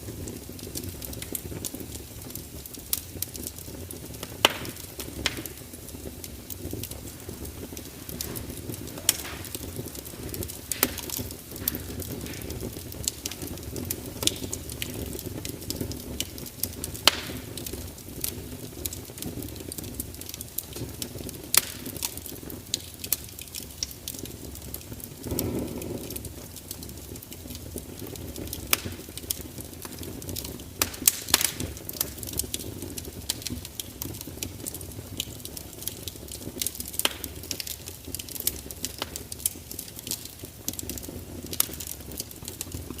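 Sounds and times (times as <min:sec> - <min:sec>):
fire crackling and popping: 0:00.0 - 0:43.0.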